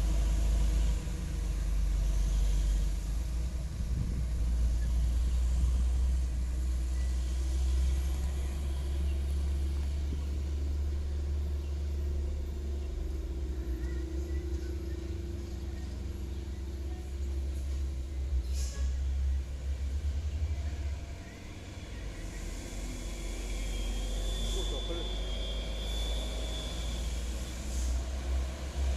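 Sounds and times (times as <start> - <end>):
truck diesel engine labouring: 0.0 - 28.9.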